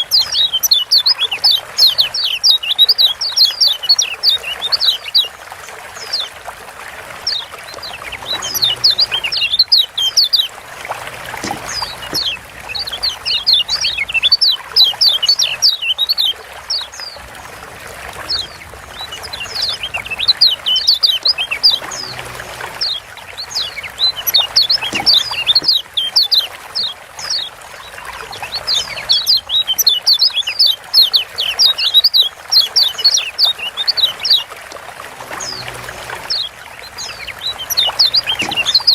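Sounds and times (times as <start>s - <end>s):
bird chirping rapidly: 0.0s - 5.3s, 7.3s - 17.2s, 18.3s - 34.5s, 36.3s - 38.9s.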